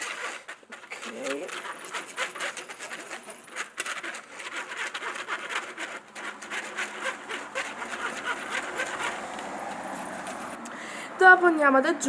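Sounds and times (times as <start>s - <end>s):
wet squelching of glue mixture stirred: 0.0s - 10.8s.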